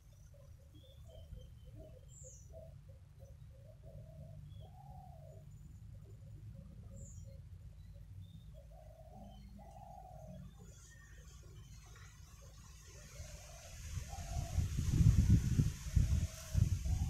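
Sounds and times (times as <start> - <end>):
low bird calls: 0.0 - 17.0.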